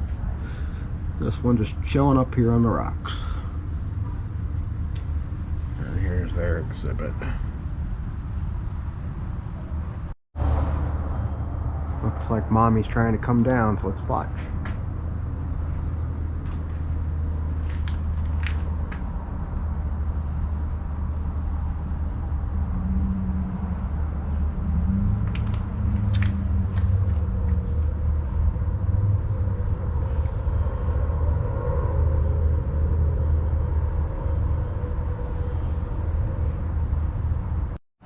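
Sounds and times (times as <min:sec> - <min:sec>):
low outdoor rumble: 0:00.0 - 0:37.8.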